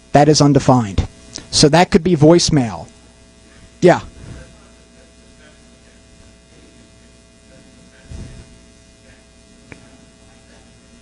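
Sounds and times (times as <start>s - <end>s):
electrical hum and buzz: 0.0s - 11.0s.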